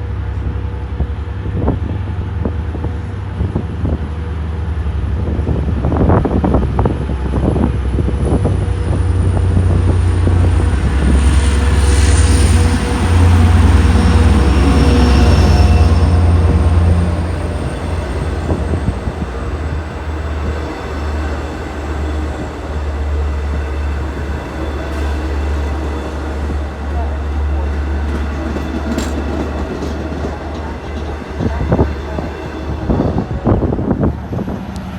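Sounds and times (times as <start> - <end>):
train rumbling past: 0.0 - 34.9.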